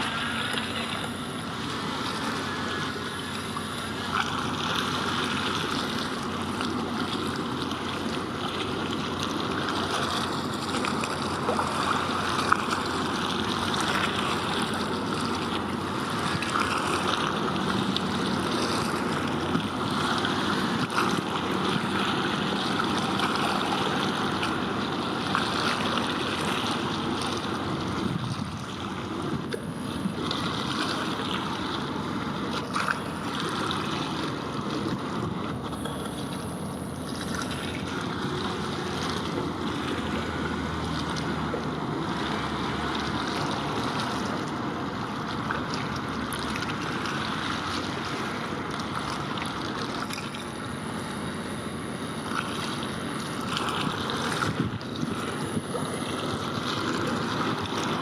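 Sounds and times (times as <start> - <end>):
rushing water: 0.0 - 58.0
wind: 0.0 - 58.0.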